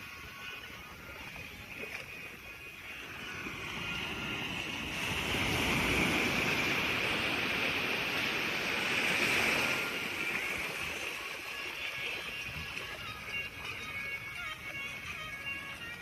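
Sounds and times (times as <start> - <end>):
sea waves rushing: 0.0 - 16.0.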